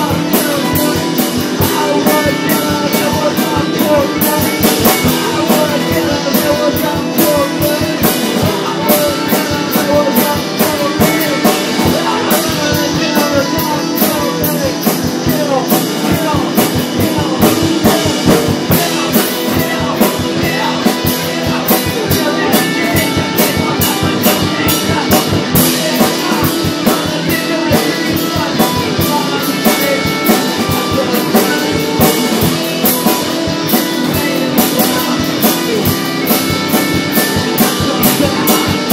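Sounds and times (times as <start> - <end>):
drum kit beat: 0.0 - 38.9
rock guitar: 0.0 - 38.9.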